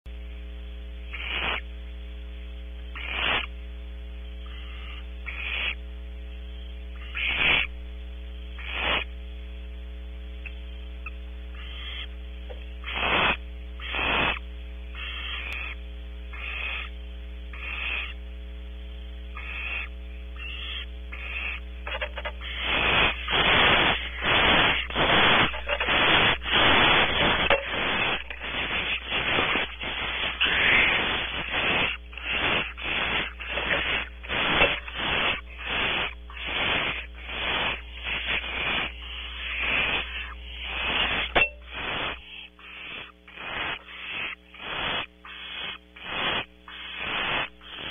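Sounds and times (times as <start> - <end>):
electrical hum: 0.1 - 47.9
owlet hissing begging calls: 1.0 - 1.7, 2.8 - 3.6, 4.4 - 5.8, 6.9 - 7.8, 8.5 - 9.1, 11.0 - 18.2, 19.3 - 47.9.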